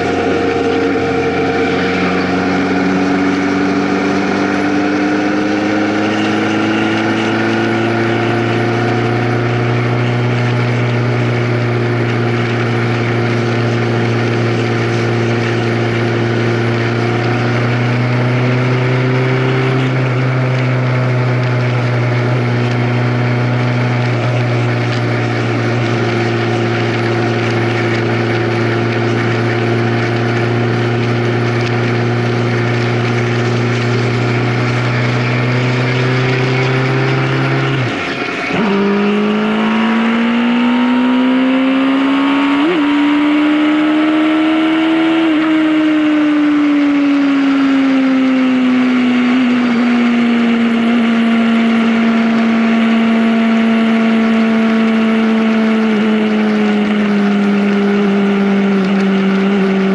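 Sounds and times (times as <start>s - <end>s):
constant rushing noise: 0.0s - 59.9s
vehicle engine running: 0.0s - 59.9s.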